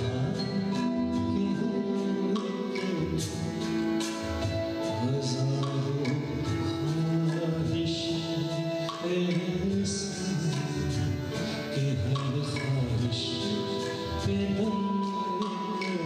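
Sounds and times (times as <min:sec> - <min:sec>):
acoustic guitar: 0:00.0 - 0:16.0
held keyboard notes: 0:00.0 - 0:16.0.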